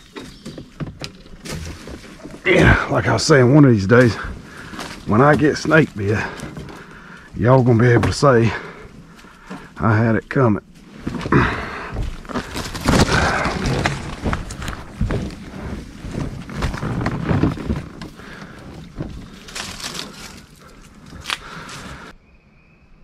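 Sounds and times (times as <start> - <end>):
twigs cracking and hull knocks: 0.0 - 22.1
leaves and branches rustling: 0.0 - 22.2.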